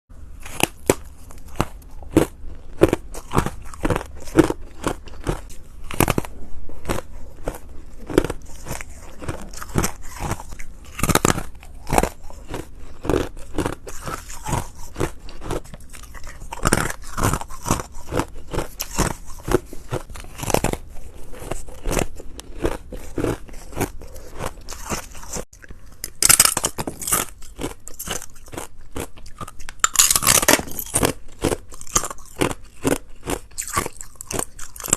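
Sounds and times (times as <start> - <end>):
ice crunching while chewed: 0.4 - 34.9.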